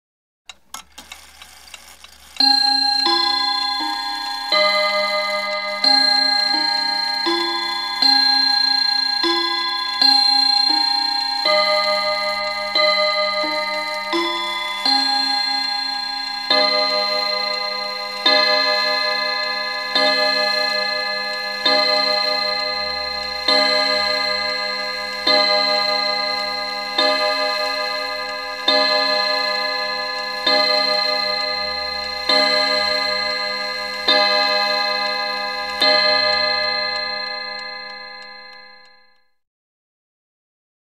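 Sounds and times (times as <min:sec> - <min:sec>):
mantel clock chime striking: 0:01.2 - 0:39.2.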